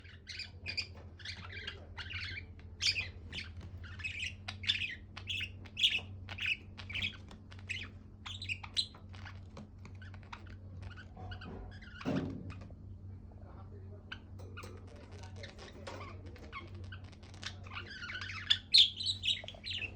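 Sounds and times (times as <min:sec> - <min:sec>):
budgie chirping and chattering: 0:00.0 - 0:12.1, 0:14.0 - 0:19.9
faint low hum: 0:00.0 - 0:19.9.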